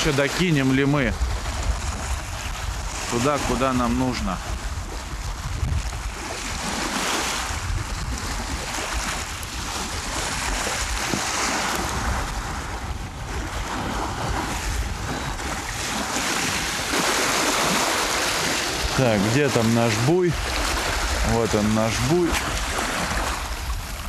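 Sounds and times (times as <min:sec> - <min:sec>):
waves washing on shore: 0:00.0 - 0:24.0
wind buffeting microphone: 0:00.0 - 0:24.0.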